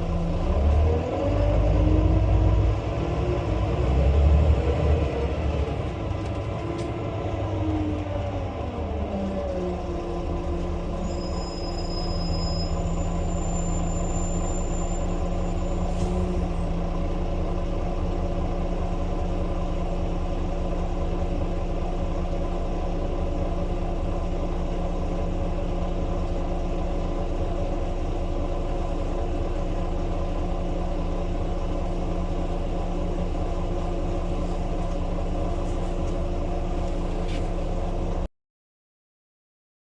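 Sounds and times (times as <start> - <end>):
bus drivetrain whine: 0.0 - 38.3.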